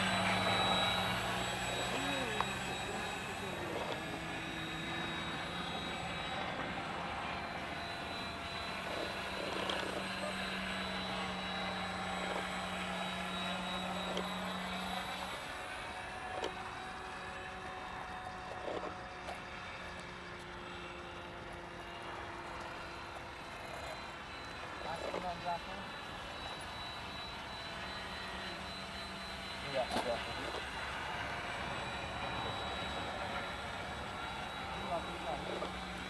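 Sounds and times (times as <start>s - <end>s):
model airplane motor droning: 0.0s - 36.0s.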